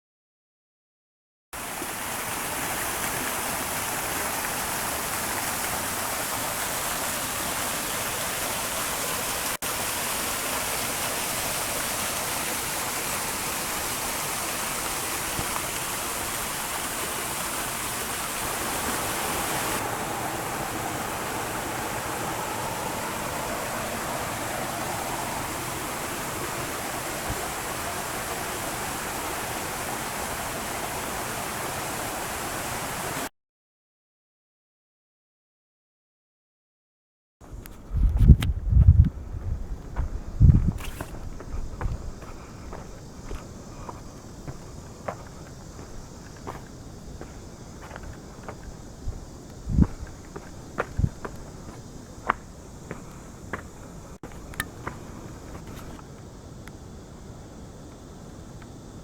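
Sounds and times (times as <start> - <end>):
creek water rushing over rocks: 1.6 - 33.3, 39.9 - 56.2.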